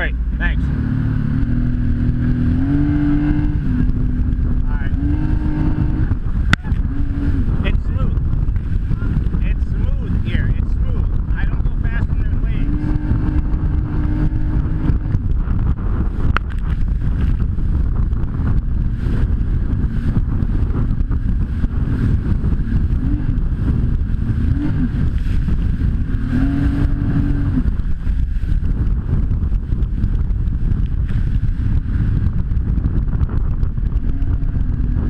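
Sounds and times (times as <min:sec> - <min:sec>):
jet ski engine running: 0:00.0 - 0:35.0
wind buffeting microphone: 0:00.0 - 0:35.0.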